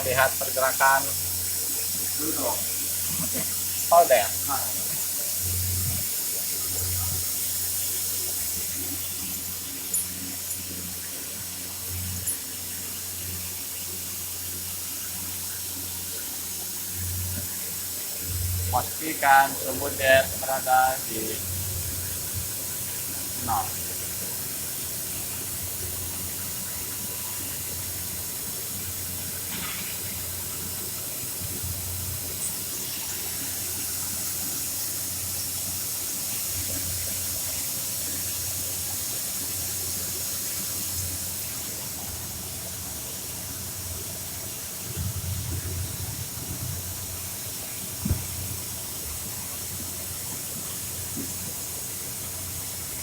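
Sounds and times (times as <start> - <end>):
machine hiss over low hum: 0.0 - 53.0.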